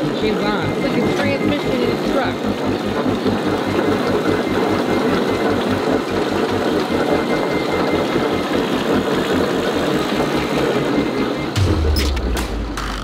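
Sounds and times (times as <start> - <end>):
machine gearing pulsing: 0.0 - 13.0.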